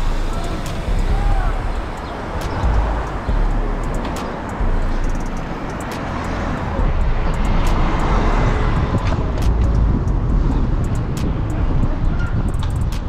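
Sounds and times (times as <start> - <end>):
street noise: 0.0 - 13.0
wind buffeting microphone: 0.0 - 13.0.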